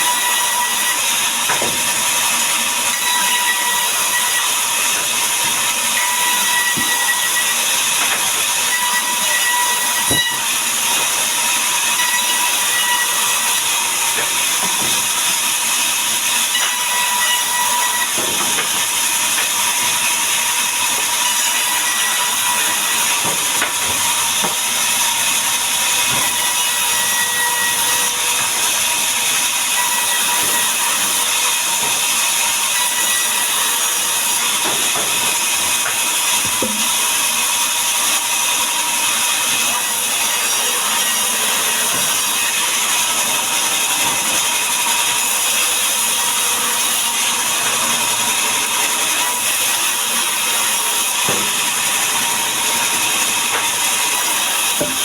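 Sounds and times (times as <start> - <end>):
electric saw whining: 0.0 - 55.0.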